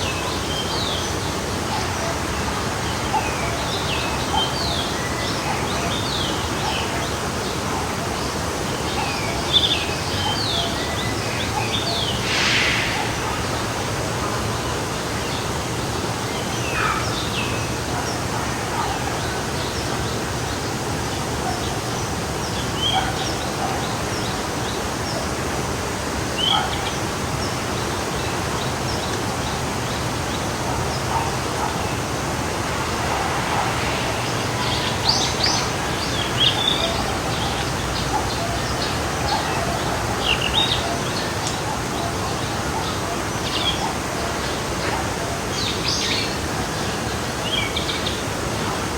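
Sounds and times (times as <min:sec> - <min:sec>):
songbirds chirping: 0:00.0 - 0:48.8
stream flowing: 0:00.0 - 0:48.9.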